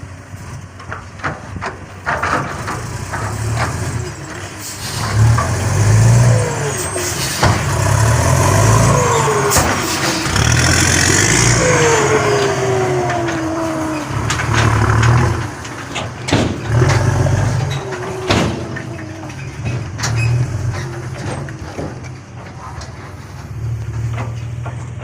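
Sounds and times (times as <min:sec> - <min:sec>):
knocks and clunks: 0:00.4 - 0:25.0
truck engine revving: 0:00.7 - 0:25.0.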